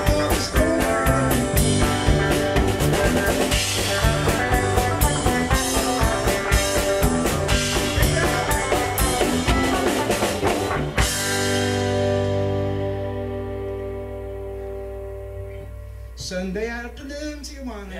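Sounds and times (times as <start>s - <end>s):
drum kit groove: 0.0s - 16.1s
electric guitars playing chords: 0.0s - 17.1s.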